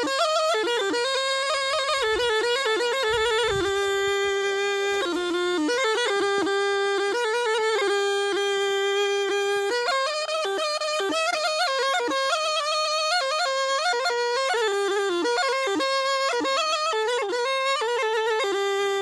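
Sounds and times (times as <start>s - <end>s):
shawm playing folk melody: 0.0s - 19.0s.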